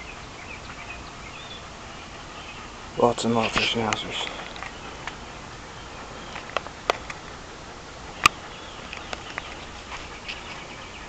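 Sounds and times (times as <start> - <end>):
faint bird chirps: 0.0 - 7.1, 8.2 - 11.0.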